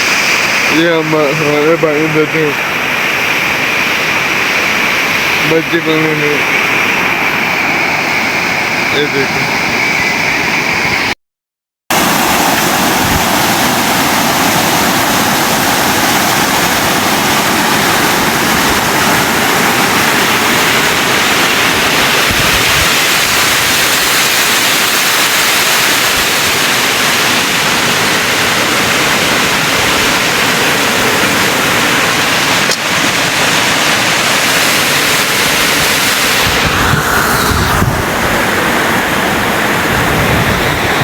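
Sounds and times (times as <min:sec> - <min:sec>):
flowing water rushing: 0:00.0 - 0:11.2, 0:11.9 - 0:41.0.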